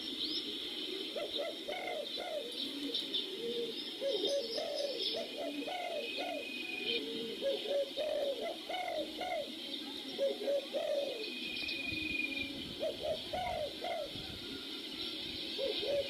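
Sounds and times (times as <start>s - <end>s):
birds hooting: 0.0s - 16.0s.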